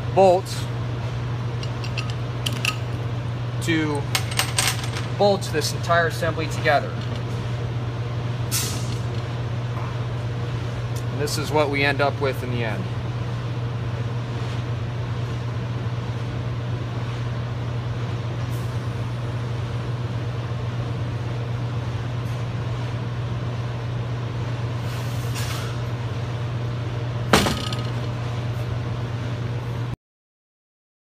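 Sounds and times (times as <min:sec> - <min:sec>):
workshop machinery hum: 0:00.0 - 0:30.0.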